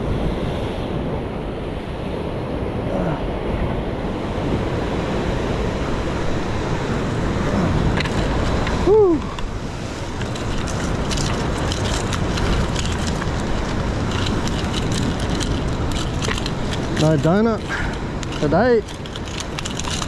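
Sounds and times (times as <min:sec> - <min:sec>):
ocean surf on rocks: 0:00.0 - 0:20.0
wind buffeting microphone: 0:00.0 - 0:20.0.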